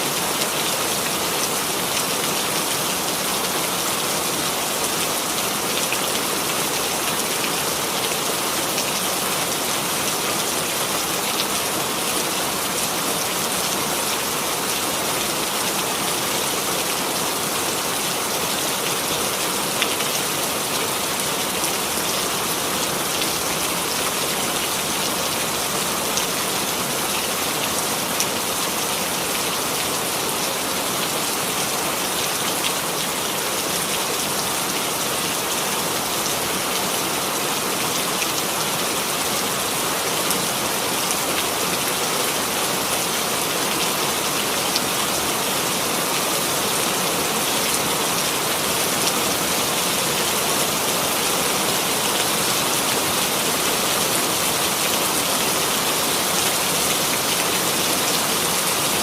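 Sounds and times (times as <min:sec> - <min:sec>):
rain pattering on a surface: 0:00.1 - 0:59.0.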